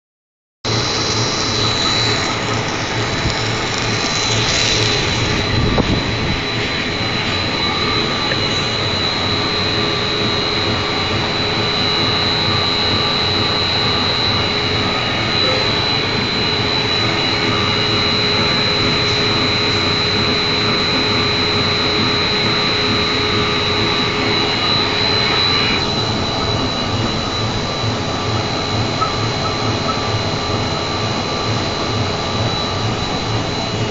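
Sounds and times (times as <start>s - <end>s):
high-pitched whine: 0.6s - 33.9s
machinery drone: 0.6s - 33.9s.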